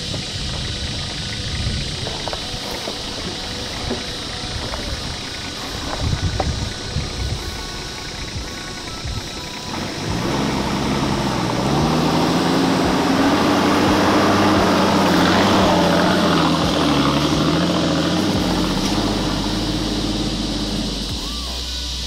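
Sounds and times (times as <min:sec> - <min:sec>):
engine working under load: 0:00.0 - 0:22.0.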